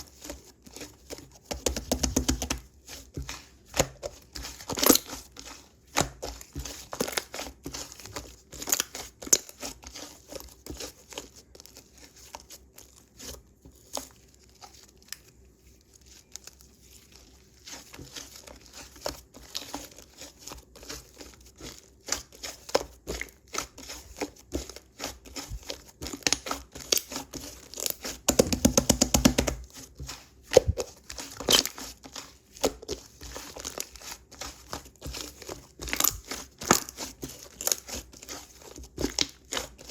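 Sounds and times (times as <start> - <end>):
slime clicking and squelching: 0.0 - 39.9.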